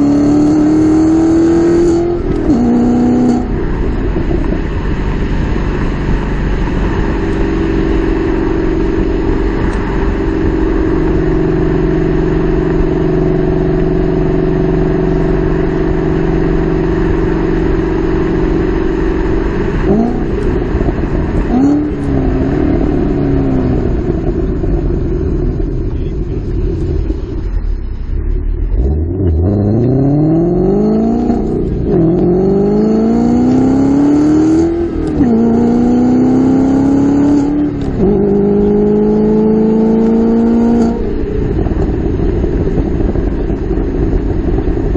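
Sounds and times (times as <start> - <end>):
car engine exhaust revving: 0.0 - 44.9.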